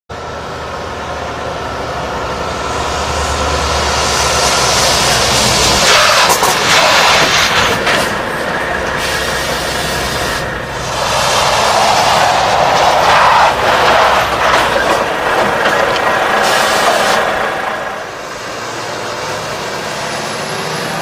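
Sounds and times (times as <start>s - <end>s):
heavy truck engine: 0.1s - 21.0s
loud hissing rush of brakes: 1.6s - 21.0s.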